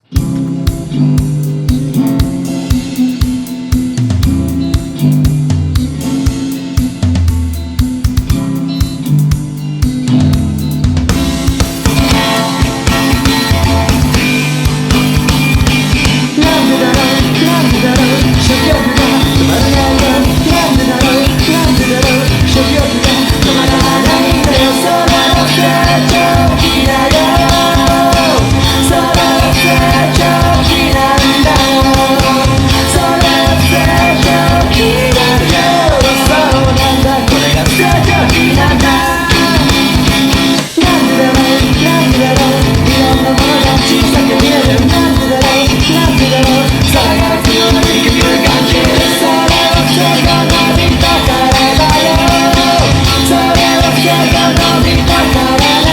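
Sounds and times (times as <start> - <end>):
driving drum kit: 0.0 - 55.9
rock band playing: 0.0 - 55.9.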